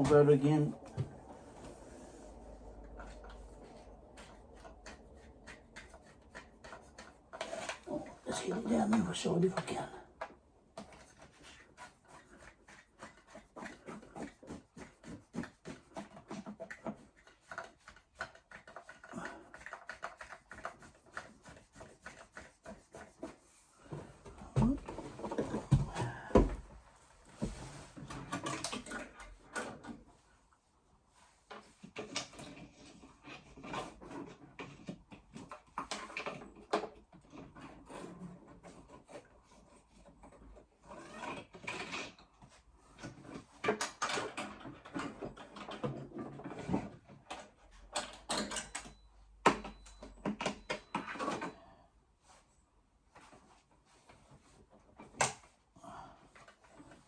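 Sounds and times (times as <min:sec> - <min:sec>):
rustling and scraping of handling: 0:00.0 - 0:57.0.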